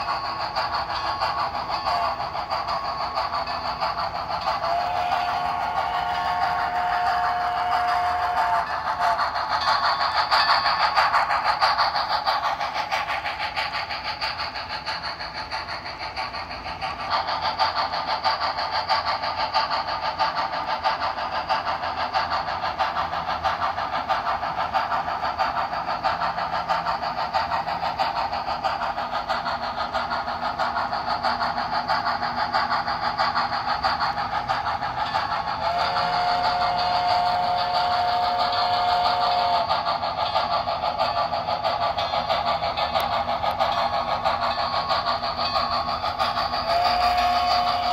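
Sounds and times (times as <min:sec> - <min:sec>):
model train mechanical clatter: 0:00.0 - 0:47.9.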